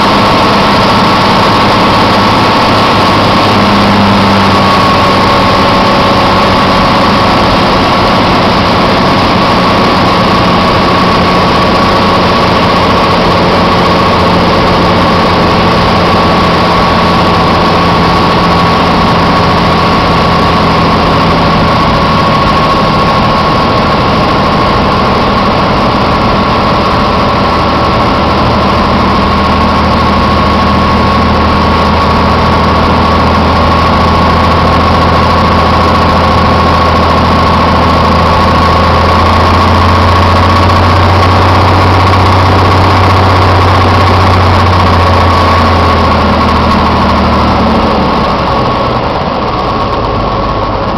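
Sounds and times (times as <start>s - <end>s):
light aircraft engine and propeller: 0.0s - 50.9s.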